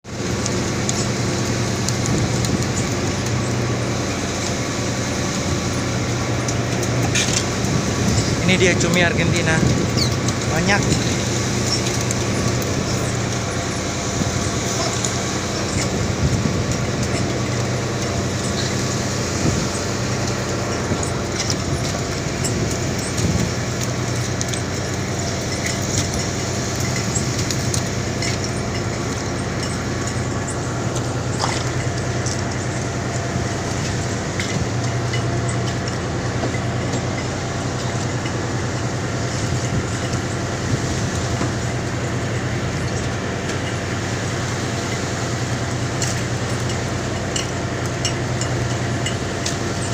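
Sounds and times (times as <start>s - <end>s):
machinery drone and hum: 0.0s - 49.9s.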